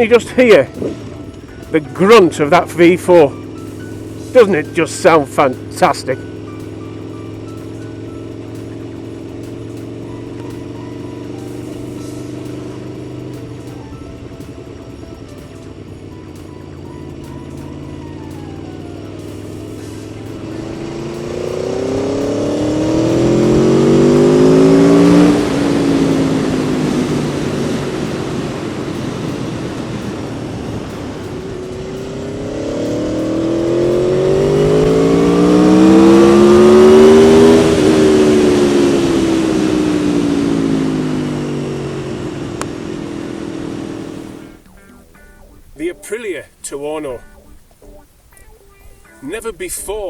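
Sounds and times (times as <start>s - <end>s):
motorcycle riding past: 0.0s - 45.8s.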